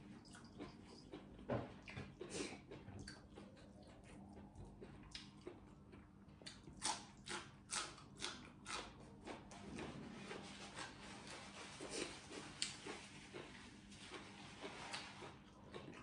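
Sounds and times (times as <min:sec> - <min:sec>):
crunchy chewing of vegetable: 0:00.0 - 0:16.0.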